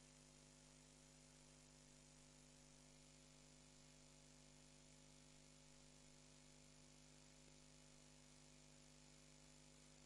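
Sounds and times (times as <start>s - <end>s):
faint electrical hum with hiss: 0.0s - 10.0s.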